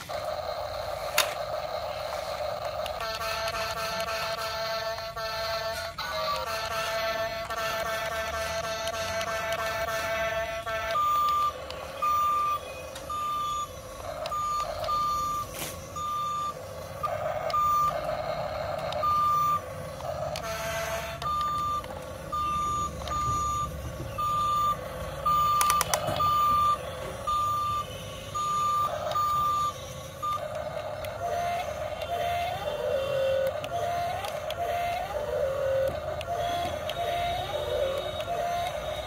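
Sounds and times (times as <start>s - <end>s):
high warning beeps: 0.0s - 39.0s
small electric motor whir: 0.0s - 39.0s.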